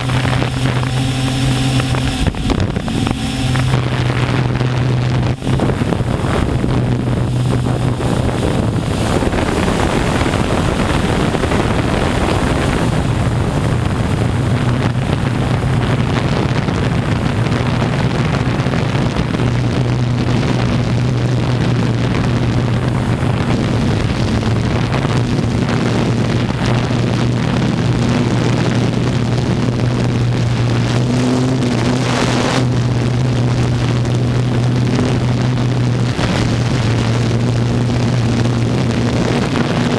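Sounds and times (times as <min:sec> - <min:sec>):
drone motors humming: 0:00.0 - 0:39.9
wind rushing over microphone: 0:00.0 - 0:39.9.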